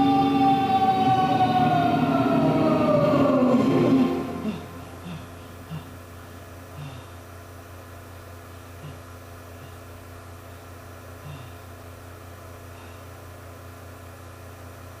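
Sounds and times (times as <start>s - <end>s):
steady low hum with hiss: 0.0s - 15.0s.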